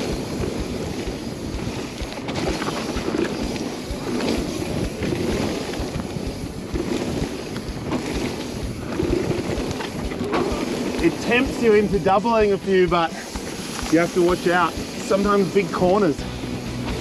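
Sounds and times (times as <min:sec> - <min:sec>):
bike knocks and rattles: 0:00.0 - 0:16.0
wind buffeting microphone: 0:00.0 - 0:16.2
tyres rolling over loose dirt: 0:00.0 - 0:17.0.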